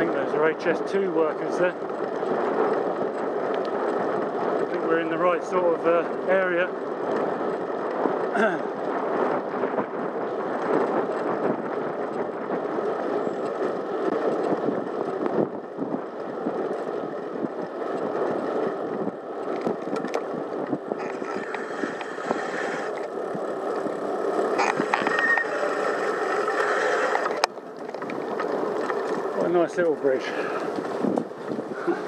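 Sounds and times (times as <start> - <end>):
bicycle tyres on tarmac: 0.0 - 32.0.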